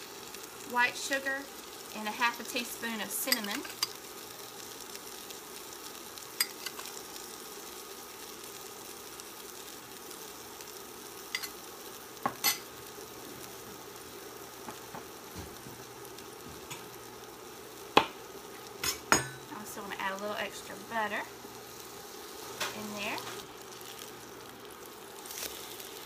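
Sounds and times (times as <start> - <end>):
bread frying in butter sizzling: 0.0 - 26.0.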